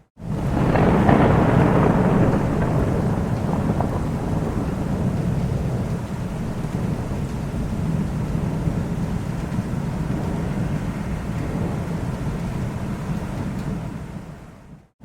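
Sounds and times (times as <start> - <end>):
rolling thunder: 0.2 - 14.9.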